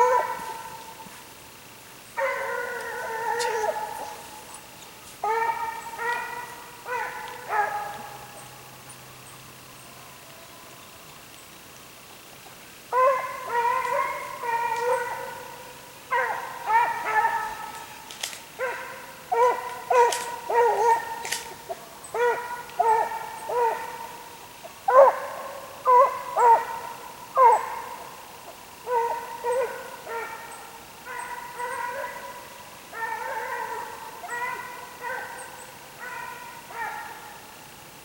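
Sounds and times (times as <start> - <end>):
hounds baying: 0.0 - 1.1, 2.2 - 8.5, 12.9 - 28.2, 28.8 - 37.4.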